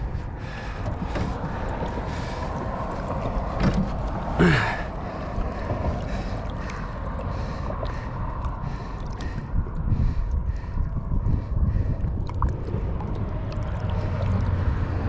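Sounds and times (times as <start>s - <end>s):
water lapping against boat: 0.0s - 15.0s
wind rumbling on microphone: 0.0s - 15.0s.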